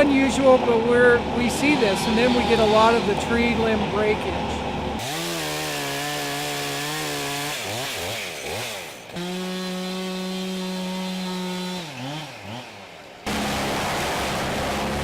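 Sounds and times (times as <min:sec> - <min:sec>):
chainsaw cutting tree limbs: 0:00.0 - 0:03.7, 0:04.9 - 0:15.0.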